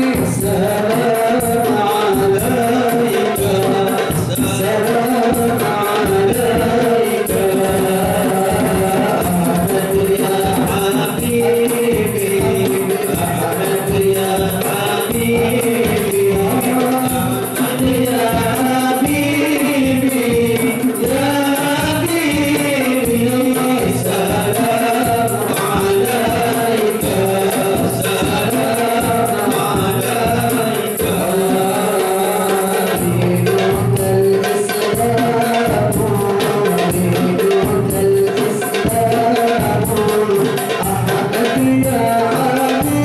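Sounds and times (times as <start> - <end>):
frame drums rhythm: 0.0 - 43.0
male group singing in unison: 0.0 - 43.0.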